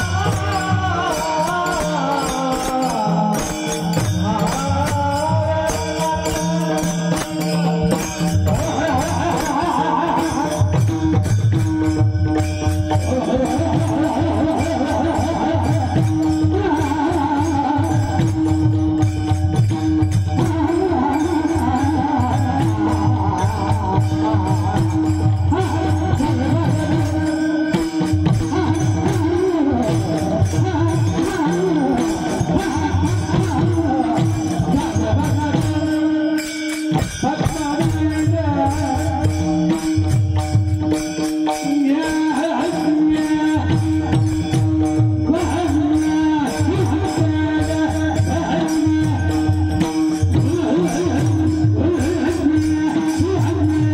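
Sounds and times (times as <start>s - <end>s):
jingling percussion: 0.0s - 53.9s
man singing: 0.0s - 53.9s.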